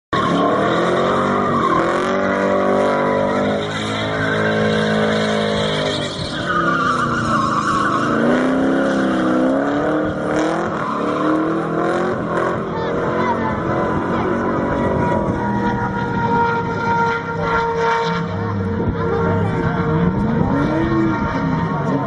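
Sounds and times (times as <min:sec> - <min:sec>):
tyres squealing: 0:00.2 - 0:17.8
car engine revving hard: 0:00.2 - 0:22.0.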